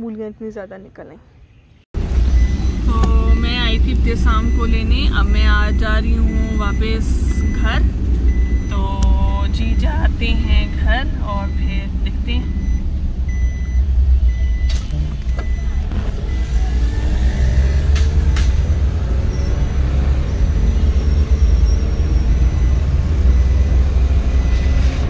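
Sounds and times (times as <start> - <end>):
car engine and road rumble: 0.8 - 25.0.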